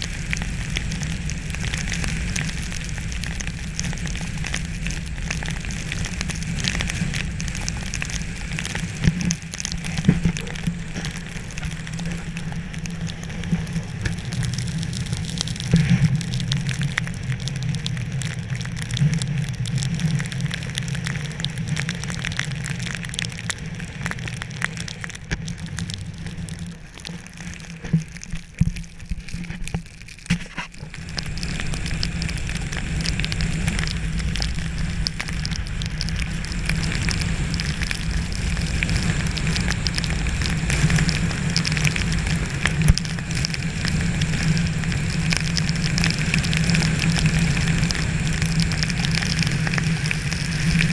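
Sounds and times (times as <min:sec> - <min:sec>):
low rumble: 0:00.0 - 0:50.9.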